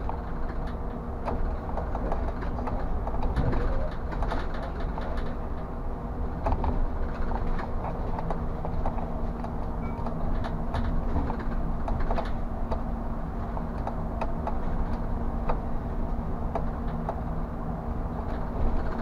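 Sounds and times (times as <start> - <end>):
clicks and rattles of cab fittings: 0.0 - 5.7, 6.4 - 12.9, 13.5 - 17.3
bus engine rumble: 0.0 - 19.0.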